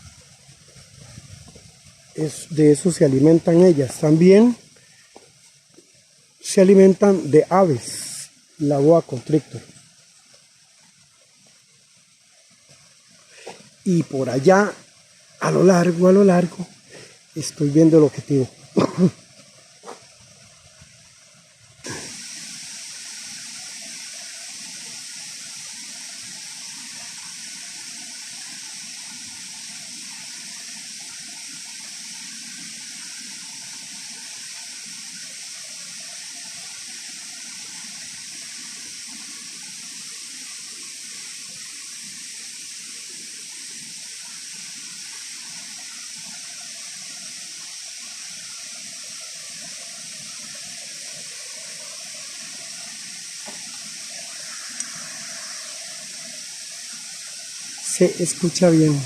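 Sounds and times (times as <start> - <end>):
waterfall rushing: 0.0 - 5.1, 6.4 - 10.3, 13.2 - 20.0, 21.8 - 59.0.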